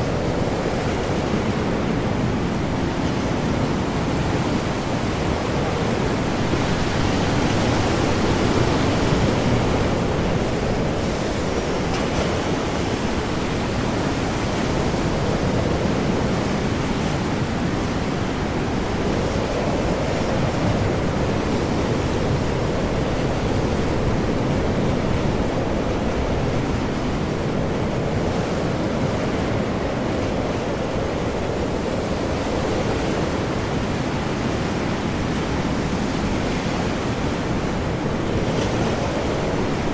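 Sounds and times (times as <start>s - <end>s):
high wind: 0.0s - 39.9s
large waves breaking: 0.0s - 39.9s.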